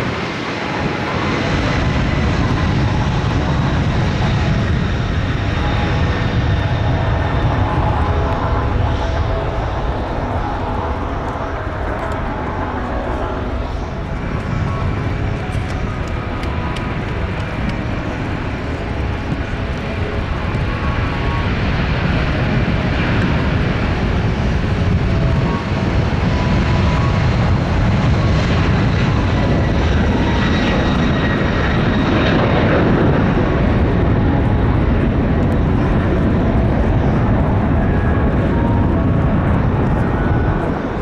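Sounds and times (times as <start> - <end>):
jet engines rumbling: 0.0 - 41.0.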